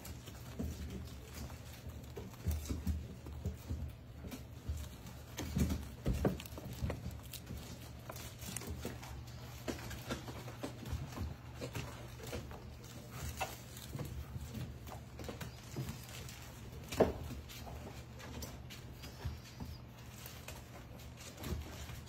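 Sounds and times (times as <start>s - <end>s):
puppies scrabbling on plastic: 0.0s - 22.0s.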